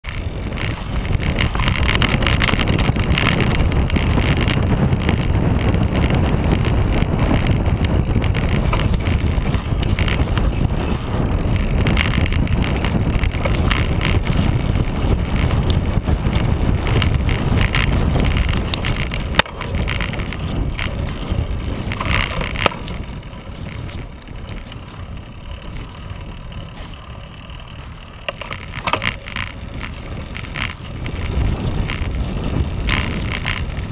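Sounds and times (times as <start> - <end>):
bike rattling over bumps: 0.0 - 33.9
bike tyres rumbling over ground: 0.0 - 33.9
wind on microphone: 0.0 - 33.9.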